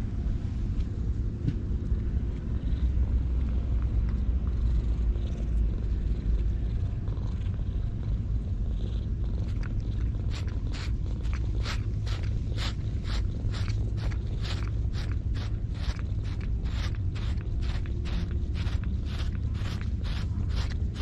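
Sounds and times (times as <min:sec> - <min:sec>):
cat purring: 0:01.8 - 0:21.0
cat licking: 0:02.6 - 0:21.0.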